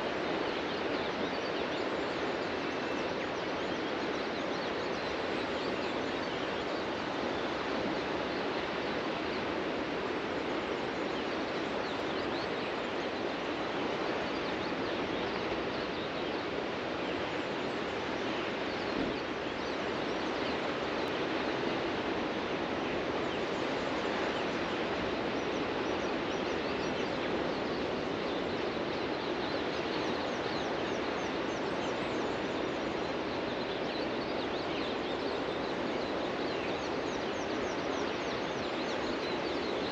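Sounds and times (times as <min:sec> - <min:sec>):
faint bird chirping: 0:00.0 - 0:39.9.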